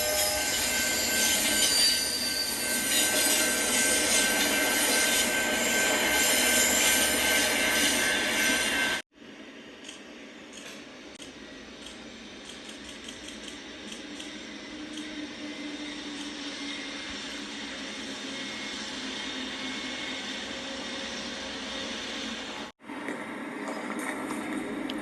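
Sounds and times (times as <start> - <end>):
diesel train rumbling past: 0.0 - 9.6, 13.6 - 25.0.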